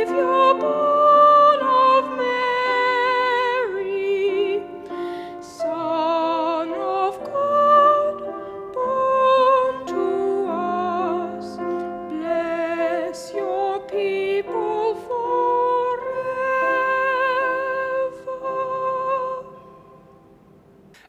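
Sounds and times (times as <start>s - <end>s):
choir singing a carol: 0.0s - 4.8s, 5.4s - 20.0s
piano accompaniment: 0.0s - 21.0s.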